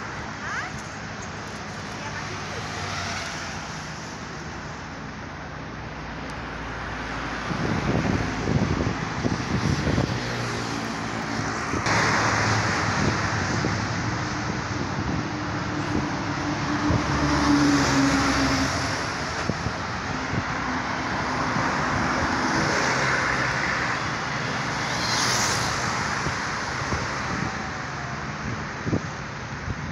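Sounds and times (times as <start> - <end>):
cars passing by: 0.0 - 29.9.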